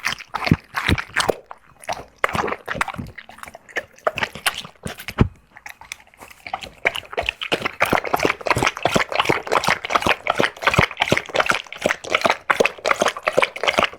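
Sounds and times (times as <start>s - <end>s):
dog chewing on a bone: 0.0s - 13.9s.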